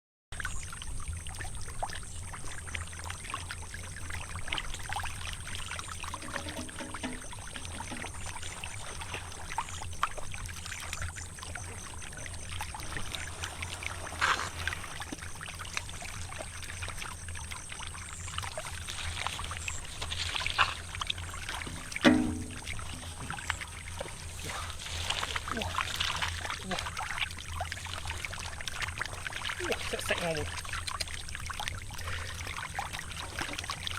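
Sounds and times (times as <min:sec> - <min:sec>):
low steady hum: 0:00.4 - 0:33.9
muddy water sloshing: 0:00.4 - 0:33.9
water splashes: 0:00.4 - 0:33.9.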